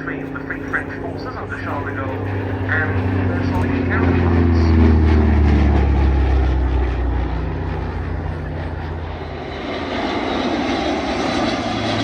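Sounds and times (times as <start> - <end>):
aircraft rushing engine noise: 0.0 - 12.0
low engine hum: 0.0 - 12.0.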